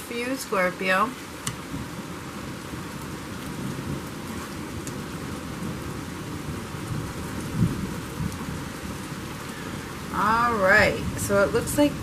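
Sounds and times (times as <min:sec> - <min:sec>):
heavy rain pouring: 0:00.0 - 0:12.0
low thunder rumbling: 0:00.0 - 0:12.0.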